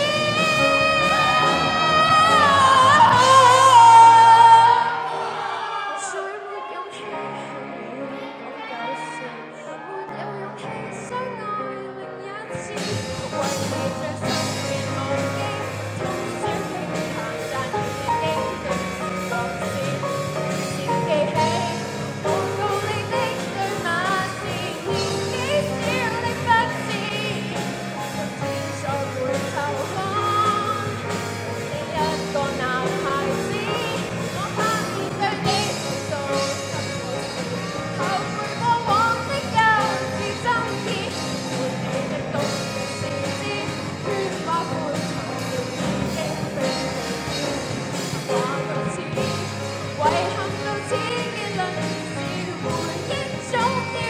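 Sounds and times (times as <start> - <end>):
bass guitar: 0.0 - 5.6, 12.6 - 54.0
drum kit: 0.0 - 5.6, 12.6 - 54.0
woman singing into microphone: 0.0 - 54.0.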